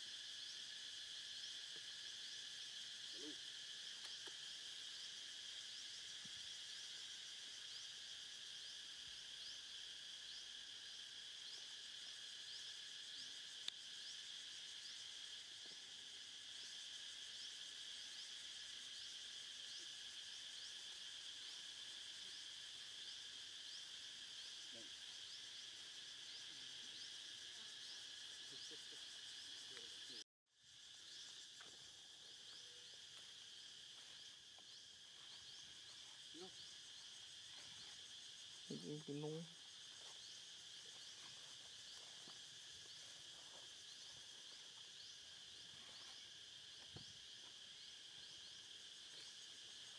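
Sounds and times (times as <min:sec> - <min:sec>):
insect chorus buzzing: 0:00.0 - 0:49.9.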